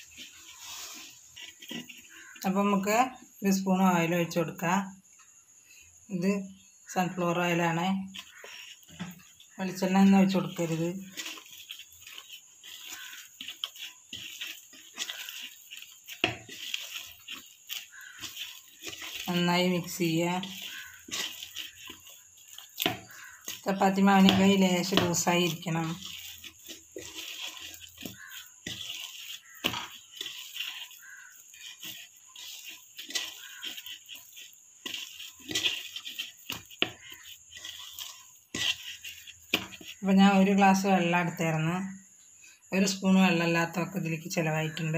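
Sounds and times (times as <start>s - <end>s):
fingers scraping metal bowl: 0.0s - 3.3s, 7.6s - 40.6s
dough squishing: 0.0s - 3.5s, 6.8s - 40.9s.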